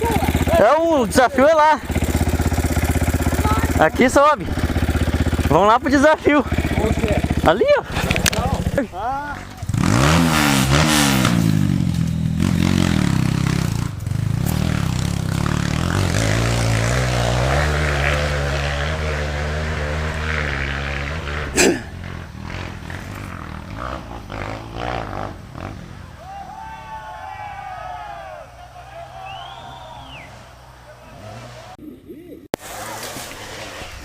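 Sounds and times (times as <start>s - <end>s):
dirt bike engine revving: 0.0s - 31.8s.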